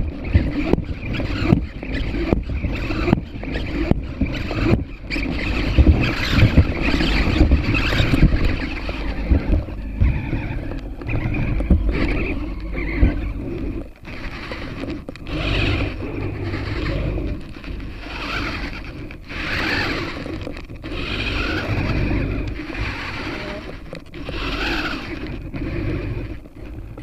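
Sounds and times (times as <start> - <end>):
robot servos whirring: 0.0 - 27.0
wind rumble on microphone: 0.0 - 27.0.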